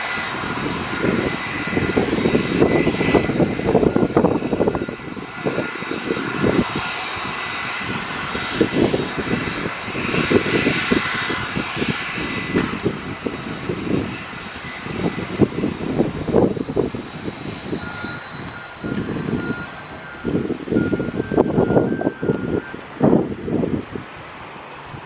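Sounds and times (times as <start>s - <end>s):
low rumble: 0.0s - 24.1s
high tone in engine whine: 0.0s - 25.0s
jet engines whining: 0.0s - 25.0s.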